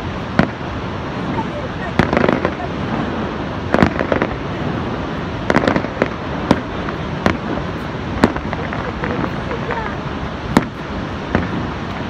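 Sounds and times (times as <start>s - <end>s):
fireworks bangs and crackles: 0.0s - 12.0s
steady rushing noise: 0.0s - 12.0s.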